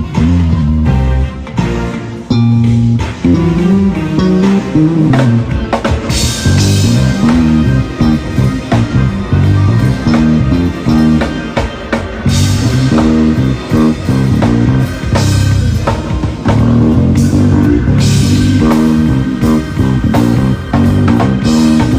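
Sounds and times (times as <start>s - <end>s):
band with drum kit: 0.0s - 21.9s
electric bass guitar line: 0.0s - 21.9s.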